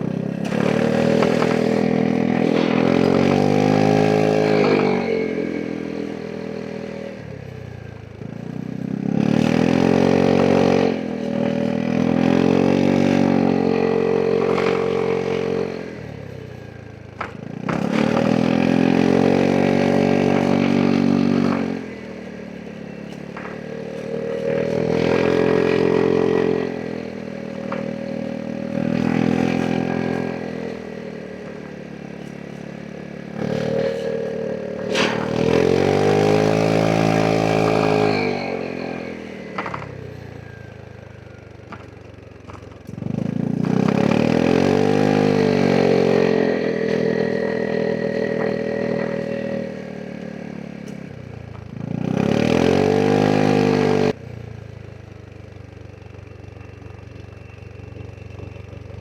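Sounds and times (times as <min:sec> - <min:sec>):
scooter engine revving: 0:00.0 - 0:54.8.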